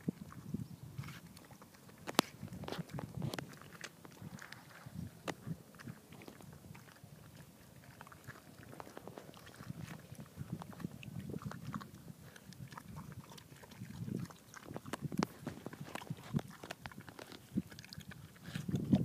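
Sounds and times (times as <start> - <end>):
pig chomping watermelon: 0.0 - 19.0.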